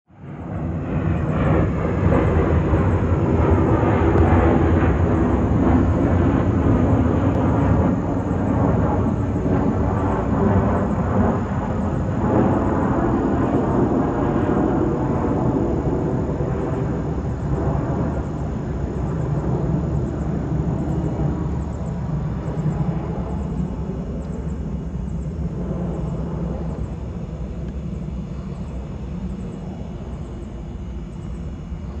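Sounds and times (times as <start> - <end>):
jet airliners rumbling: 0.1 - 32.0.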